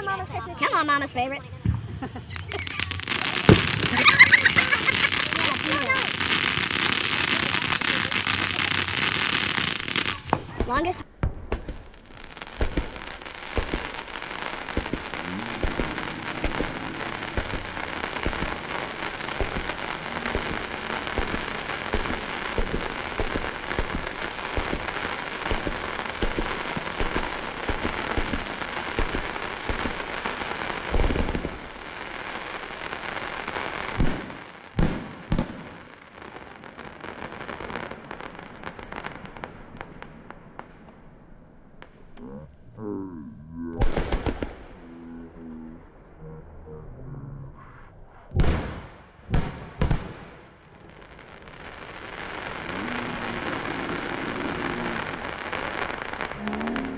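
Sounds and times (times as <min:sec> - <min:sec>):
loud firework bangs: 0:00.0 - 0:41.1, 0:43.8 - 0:45.0, 0:48.3 - 0:56.9
fireworks crackling: 0:00.0 - 0:56.9.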